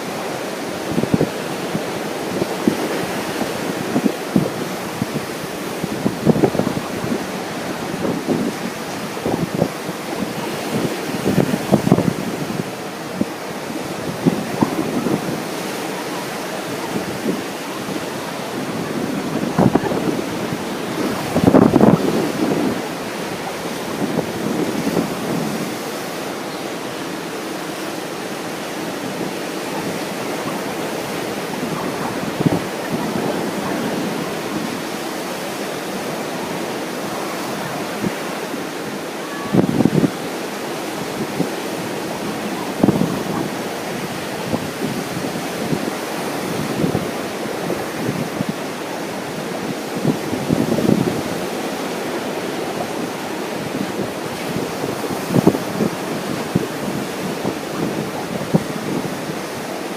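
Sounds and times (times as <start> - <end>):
ocean surf washing: 0.0 - 59.9
wind buffeting microphone: 0.0 - 59.9.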